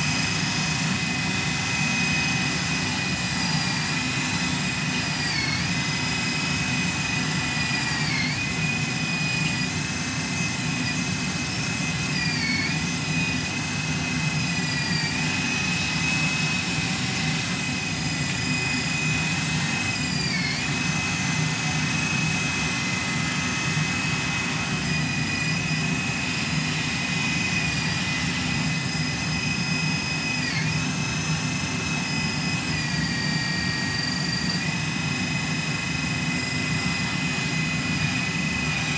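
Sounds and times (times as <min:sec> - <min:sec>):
electric motor high whine: 0:00.0 - 0:38.9.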